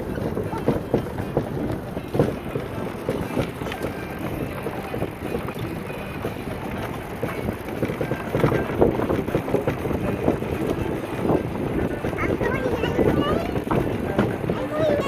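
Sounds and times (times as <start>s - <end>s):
bicycle knocking and rattling: 0.0s - 15.0s
wind buffeting microphone: 0.0s - 15.0s.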